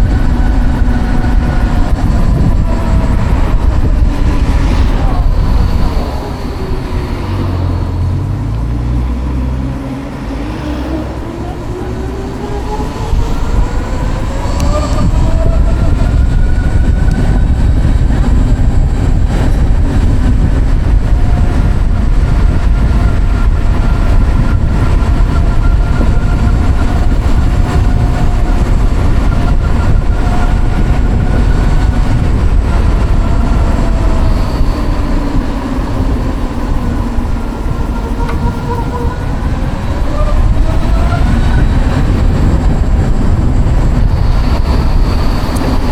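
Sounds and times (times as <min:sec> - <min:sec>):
heavy wind rumble: 0:00.0 - 0:45.9.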